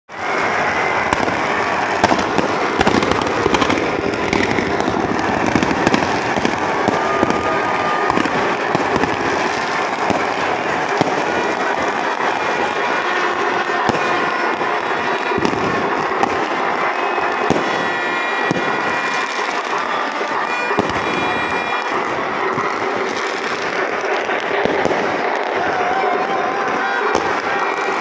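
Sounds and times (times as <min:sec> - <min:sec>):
firecrackers crackling: 0:00.1 - 0:28.0
fireworks bangs: 0:00.1 - 0:28.0.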